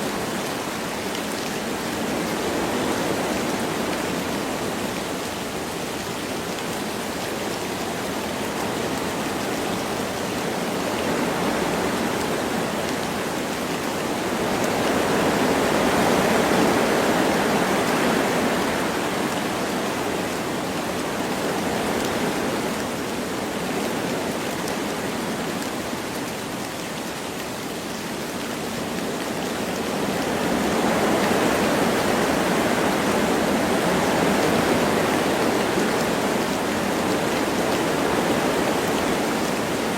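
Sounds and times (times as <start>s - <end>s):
light rain: 0.0s - 39.9s
wind blowing through trees: 0.0s - 39.9s.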